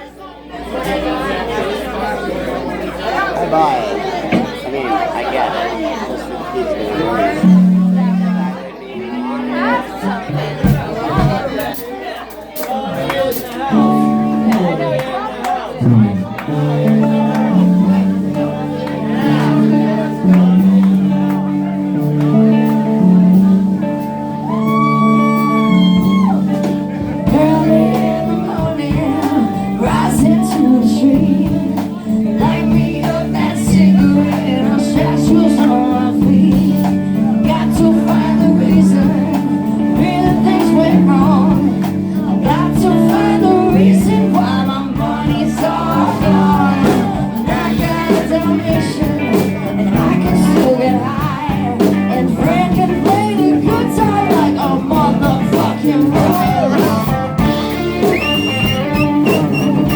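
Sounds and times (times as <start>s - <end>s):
bass guitar: 6.8s - 59.9s
electric guitar lines: 7.2s - 10.8s, 13.7s - 59.9s
drums: 7.2s - 59.9s.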